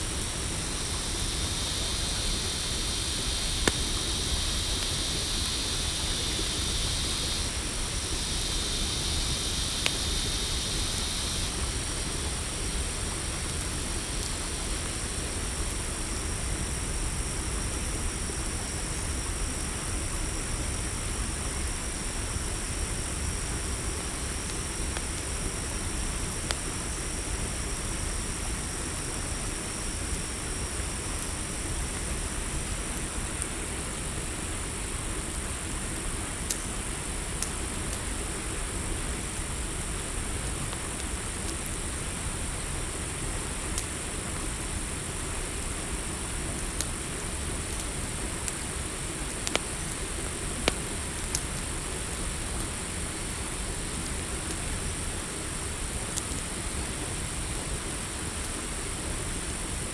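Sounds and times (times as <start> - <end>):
crickets chirping: 0.0 - 59.9
low rushing hiss: 0.0 - 59.9
campfire crackling and popping: 0.1 - 42.2, 43.0 - 59.9.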